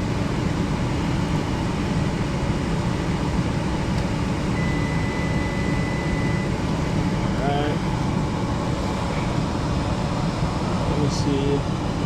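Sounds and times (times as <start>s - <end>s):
gas furnace humming: 0.0s - 12.0s.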